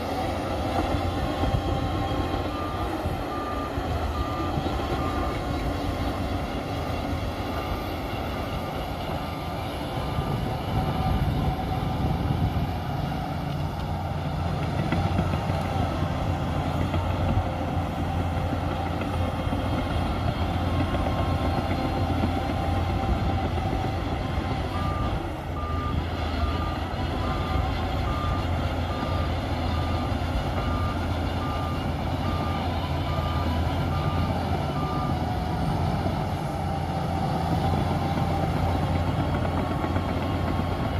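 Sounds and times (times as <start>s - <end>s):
bulldozer diesel engine running: 0.0s - 40.9s
reversing alarm beeping: 0.3s - 13.6s, 14.2s - 40.8s.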